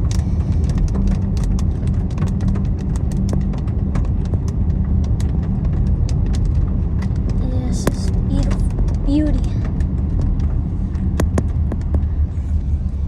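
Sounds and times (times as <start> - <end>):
rain ticking on car: 0.0 - 13.0
road and engine rumble: 0.0 - 13.0.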